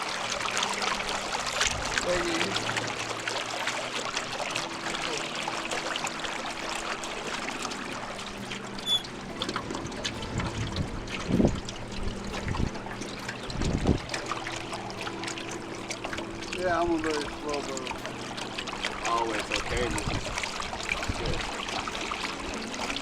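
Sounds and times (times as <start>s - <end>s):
boat motor humming: 0.0s - 23.0s
water lapping against boat hull: 0.0s - 23.0s.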